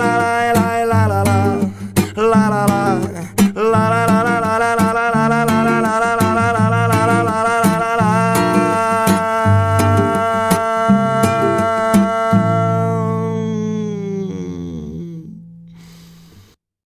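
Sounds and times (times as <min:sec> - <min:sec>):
bass line: 0:00.0 - 0:15.7.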